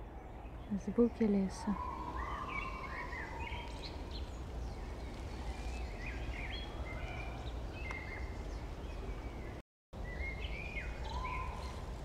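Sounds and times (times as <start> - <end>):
woodland birds singing: 0.0 - 12.0.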